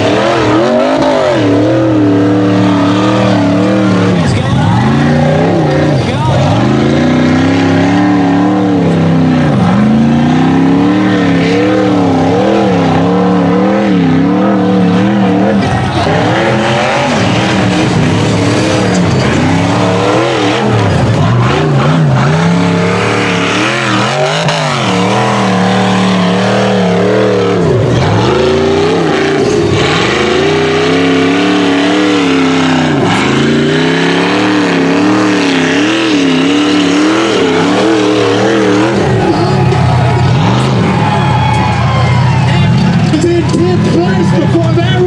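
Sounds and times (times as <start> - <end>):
buggy engine revving hard: 0.0 - 45.0.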